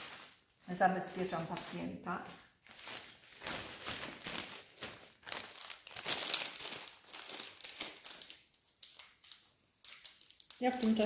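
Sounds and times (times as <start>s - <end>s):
paper drape crinkling and rustling: 0.0s - 11.0s.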